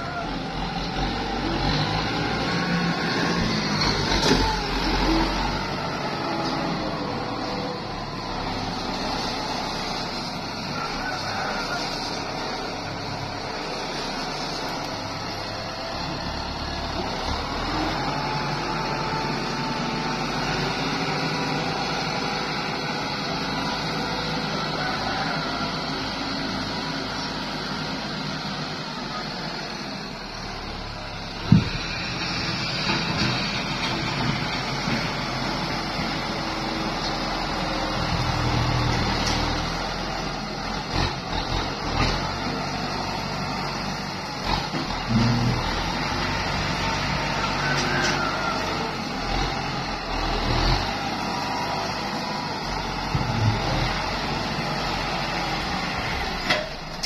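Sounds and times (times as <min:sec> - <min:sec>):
diesel tractor running: 0:00.0 - 0:57.0.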